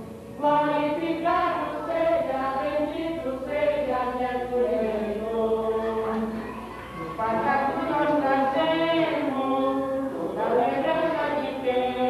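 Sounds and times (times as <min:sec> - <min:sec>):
women singing a hymn: 0:00.0 - 0:06.4, 0:07.0 - 0:12.0.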